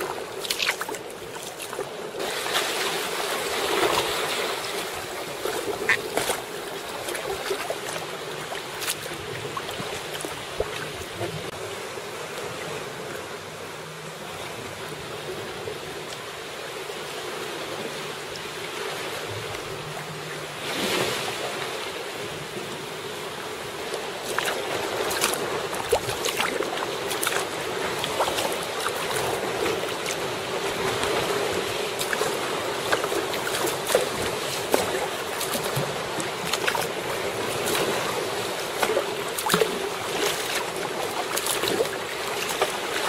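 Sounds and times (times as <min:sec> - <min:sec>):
paddle splashes: 0:00.0 - 0:13.3, 0:16.9 - 0:22.2, 0:23.6 - 0:43.0
water lapping against kayak hull: 0:00.0 - 0:43.0.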